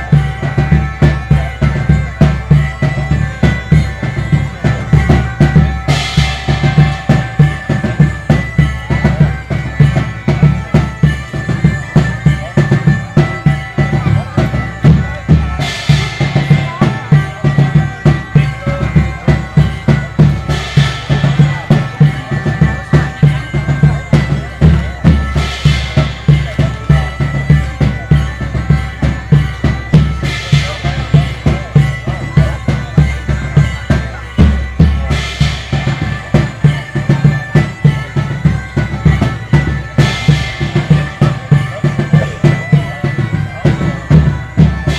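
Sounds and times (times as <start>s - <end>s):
bagpipes playing a melody: 0.0s - 44.9s
regular drum beat: 0.0s - 44.9s.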